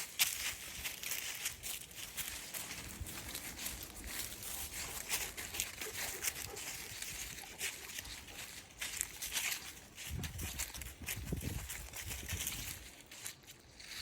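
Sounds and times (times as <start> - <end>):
footsteps crunching through dry ground cover: 0.0 - 14.0.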